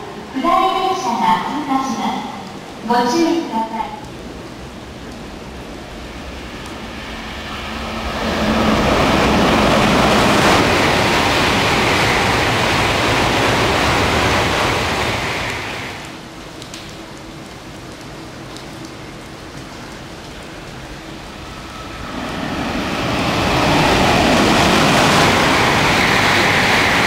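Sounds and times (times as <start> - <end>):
bullet train passing: 0.0 - 16.1, 20.1 - 27.0.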